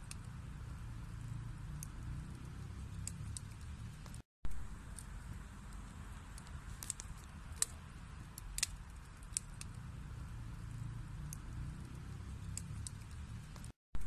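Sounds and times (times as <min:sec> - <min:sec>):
wood fire crackling: 0:00.0 - 0:13.8.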